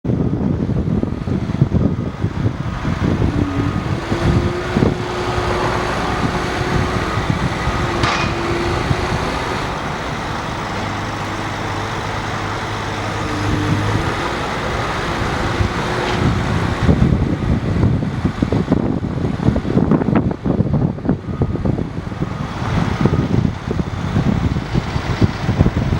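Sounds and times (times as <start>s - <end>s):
excavator diesel engine running: 0.1s - 25.9s.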